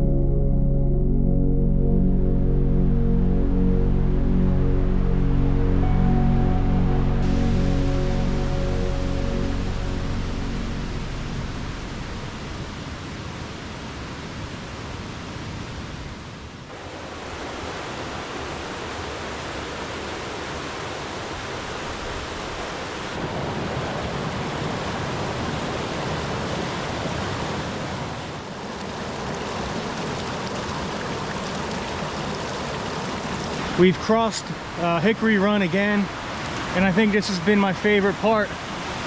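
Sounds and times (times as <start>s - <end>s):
mountain stream rushing: 5.4s - 39.0s.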